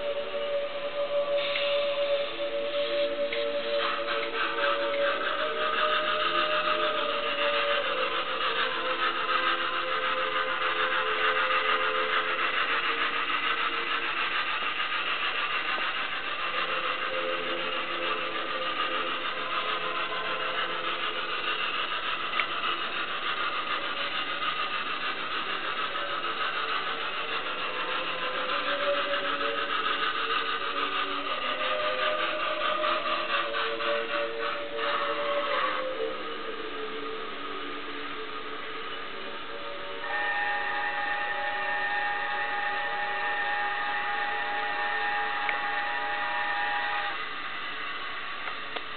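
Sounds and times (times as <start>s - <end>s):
steam engine sounds from small speaker: 0.0s - 48.9s.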